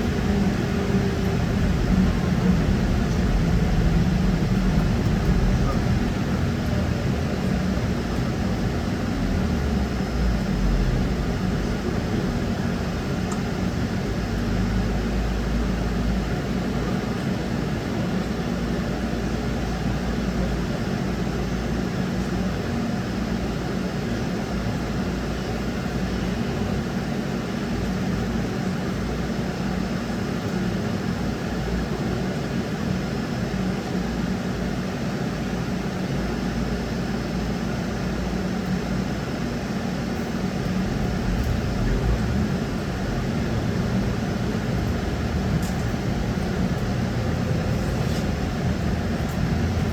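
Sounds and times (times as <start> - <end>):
trolleybus rumbling: 0.0 - 49.9.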